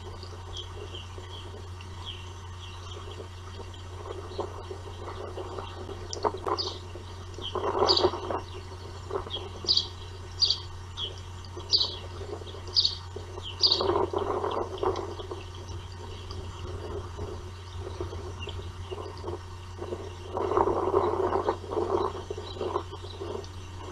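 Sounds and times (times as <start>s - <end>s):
osprey chirping: 0.0s - 23.9s
steady low hum: 0.0s - 23.9s.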